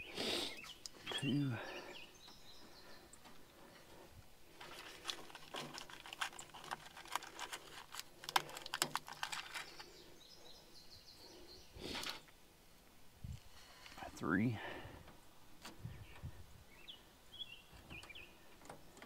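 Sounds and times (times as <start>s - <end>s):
birds chirping: 0.0s - 19.0s
rustle: 0.0s - 19.0s.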